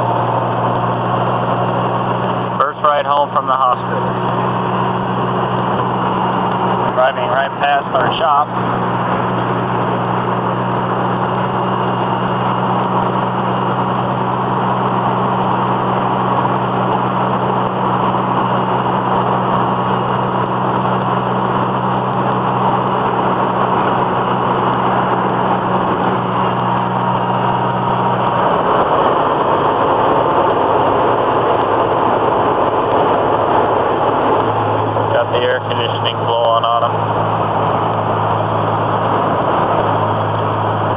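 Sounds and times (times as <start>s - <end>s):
car engine drone: 0.0s - 40.9s
low hum: 0.0s - 40.9s
road noise: 0.0s - 40.9s.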